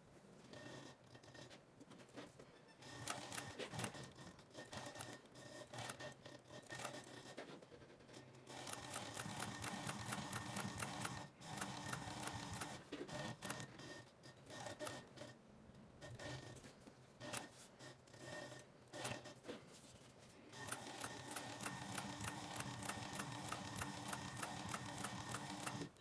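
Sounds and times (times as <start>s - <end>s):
sewing machine stitching leather: 0.5s - 1.6s, 2.8s - 15.4s, 16.0s - 19.5s, 20.5s - 26.0s.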